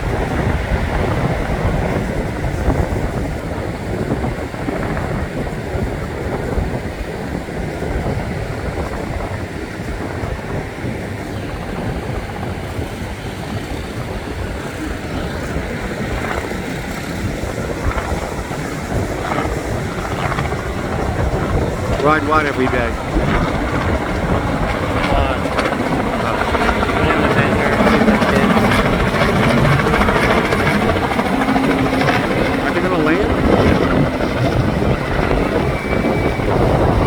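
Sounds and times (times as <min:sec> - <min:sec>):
helicopter rotor and engine: 0:00.0 - 0:37.0
wind buffeting microphone: 0:00.0 - 0:37.0.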